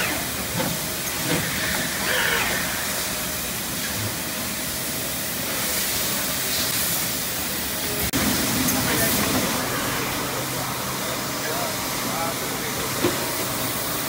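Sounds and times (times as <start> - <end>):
machine hissing and running: 0.0 - 14.0.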